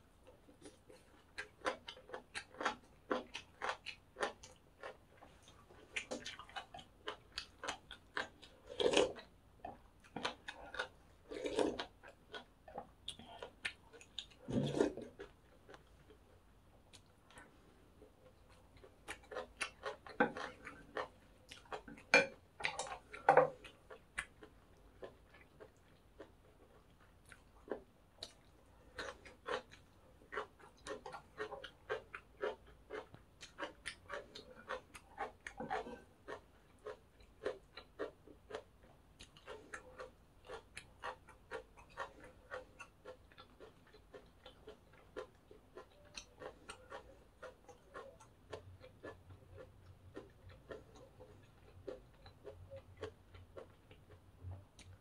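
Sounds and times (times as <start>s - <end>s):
chewing crunchy cartilage: 0.2s - 55.0s.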